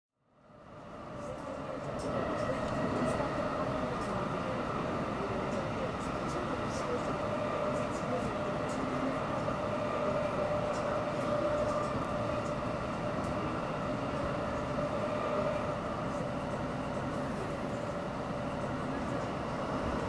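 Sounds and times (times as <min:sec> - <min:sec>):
train rumble from inside: 0:00.2 - 0:20.0.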